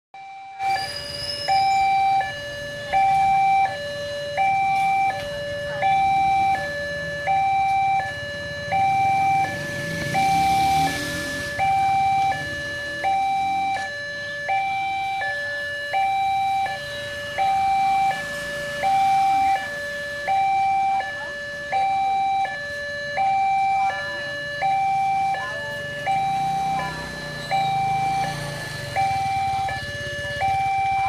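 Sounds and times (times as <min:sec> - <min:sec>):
two-tone level crossing alarm: 0:00.2 - 0:31.0.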